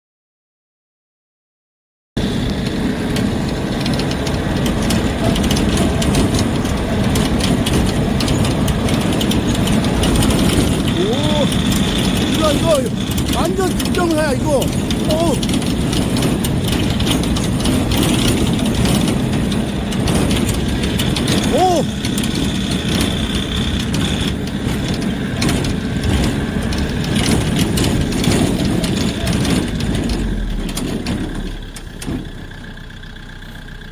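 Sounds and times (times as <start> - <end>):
vehicle engine running: 2.2 - 33.9
small rattles and clicks: 2.4 - 32.6.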